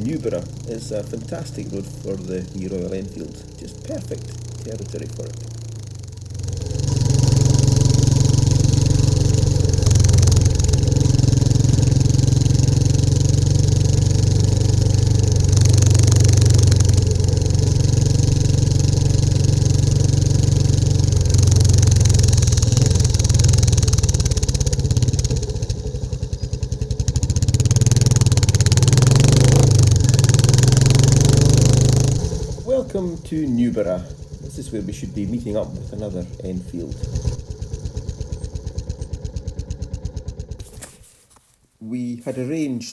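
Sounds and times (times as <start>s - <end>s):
motorcycle engine running: 0.0s - 41.4s.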